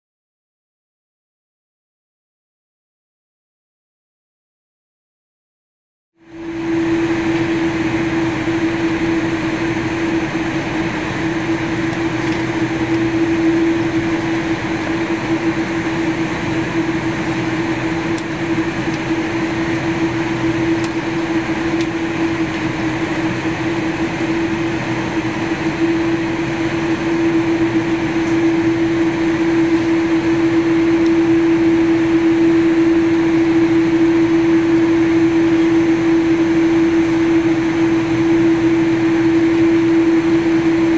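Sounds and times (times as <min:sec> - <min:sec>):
constant droning hum: 0:06.2 - 0:40.9
cabin air system rushing: 0:06.3 - 0:40.9.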